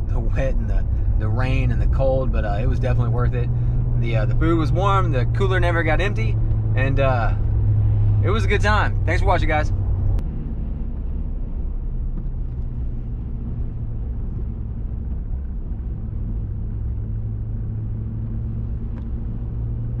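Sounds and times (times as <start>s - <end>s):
engine drone inside vehicle: 0.0s - 20.0s
low hum: 0.0s - 20.0s
road noise: 0.0s - 20.0s.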